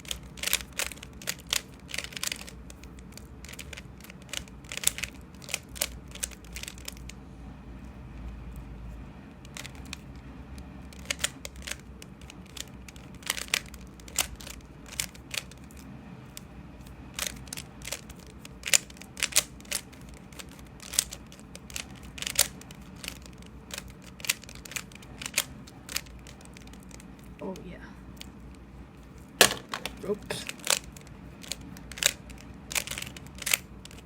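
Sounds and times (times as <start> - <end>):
puzzle cube clicking as turned: 0.0 - 7.1, 9.4 - 10.0, 10.9 - 16.4, 17.2 - 27.3, 29.4 - 34.0.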